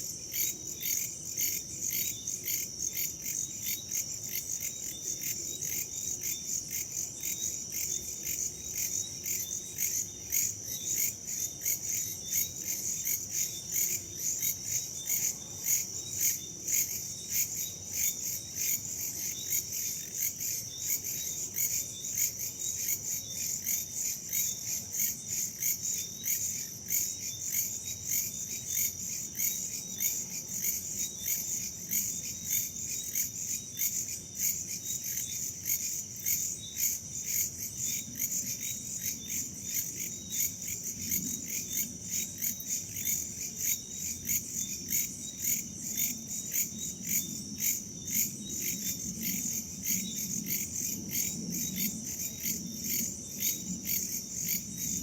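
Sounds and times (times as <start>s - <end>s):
crickets and insects chirping: 0.0s - 55.0s.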